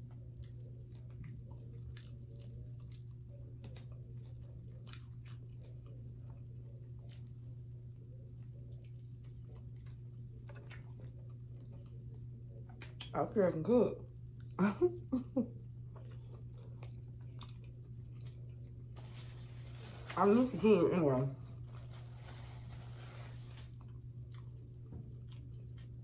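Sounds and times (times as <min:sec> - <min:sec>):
chewing and biting fried chicken: 0:00.0 - 0:13.1, 0:15.5 - 0:20.2, 0:21.4 - 0:26.0
low electrical hum: 0:00.0 - 0:26.0.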